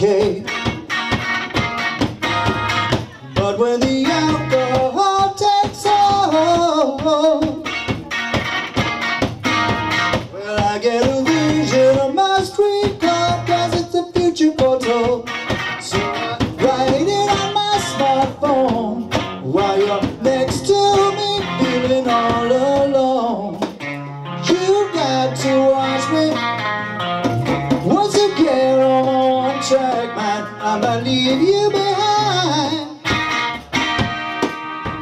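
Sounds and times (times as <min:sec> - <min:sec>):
electric guitar bending notes: 0:00.0 - 0:35.0
hand-drum percussion: 0:00.0 - 0:35.0.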